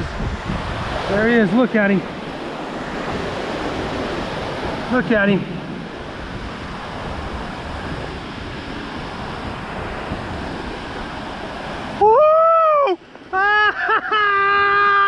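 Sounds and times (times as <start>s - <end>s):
wind on microphone: 0.0s - 13.4s
surf washing up beach: 0.0s - 15.0s.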